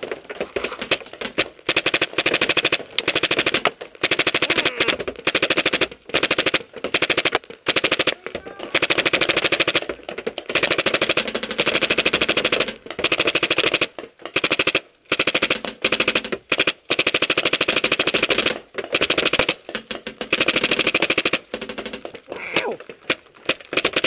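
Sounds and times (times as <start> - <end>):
paintball gun automatic fire: 0.0 - 24.0.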